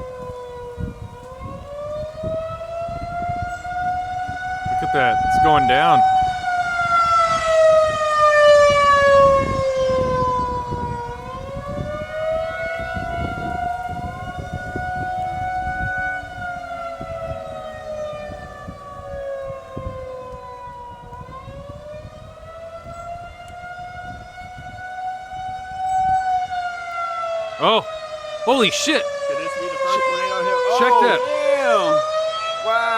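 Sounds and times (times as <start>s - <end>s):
warning siren wailing: 0.0s - 32.9s
wind buffeting microphone: 0.0s - 32.9s.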